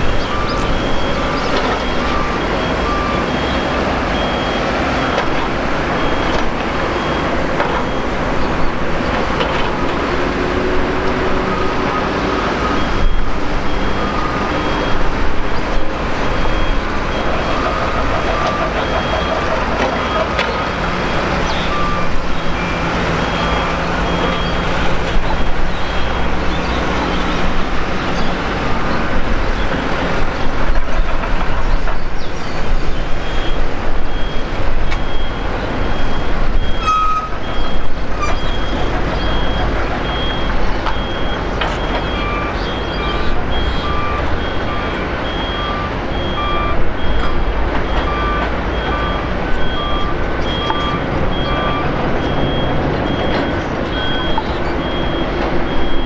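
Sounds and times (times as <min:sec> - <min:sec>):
high-pitched reversing alarm beeps: 0:00.0 - 0:08.9, 0:11.3 - 0:28.4, 0:33.0 - 0:56.0
lower reversing alarm beeps: 0:00.0 - 0:09.5, 0:10.4 - 0:28.5, 0:32.2 - 0:56.0
jet engines rumbling: 0:00.0 - 0:56.0.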